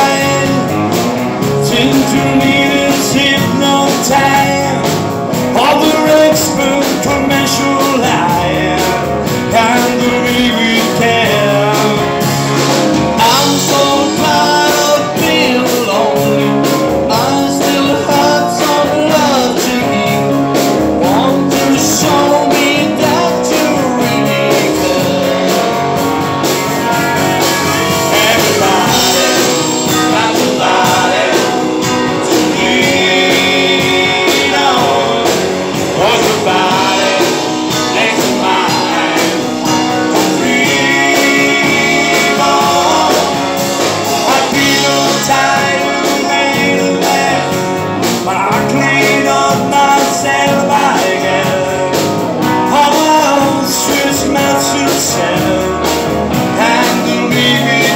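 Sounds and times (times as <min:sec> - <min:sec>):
man singing into a microphone: 0:00.0 - 0:25.8, 0:27.8 - 0:57.9
live rock band: 0:00.0 - 0:57.9.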